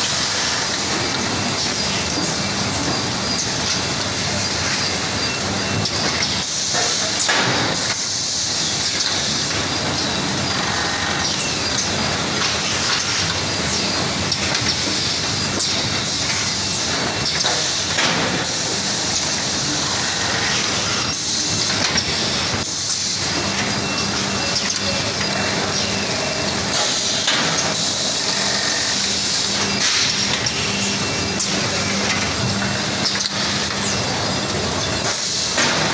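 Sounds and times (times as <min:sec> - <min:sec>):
packing machine running: 0:00.0 - 0:35.9.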